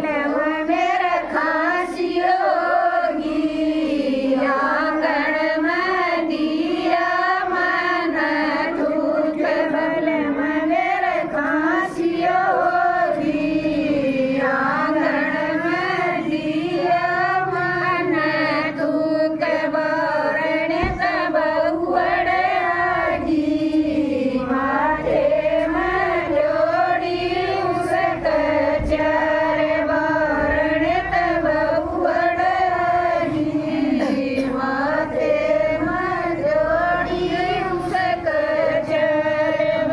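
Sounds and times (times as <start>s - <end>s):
women singing in unison: 0.0s - 39.9s.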